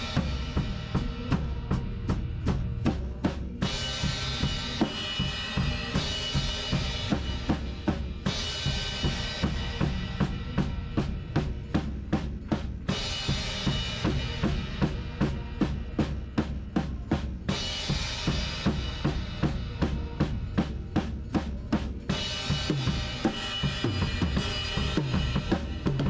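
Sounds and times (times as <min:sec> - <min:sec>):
kick and snare drum groove: 0:00.0 - 0:26.0.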